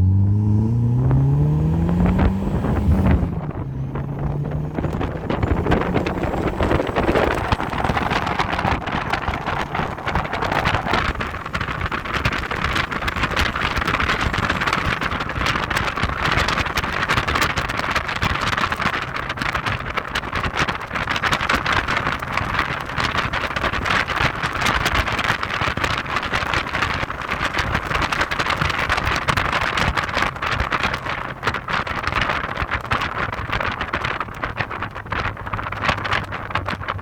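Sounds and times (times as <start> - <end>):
car running rumble: 0.0 - 37.0
wind buffeting microphone: 0.0 - 37.0.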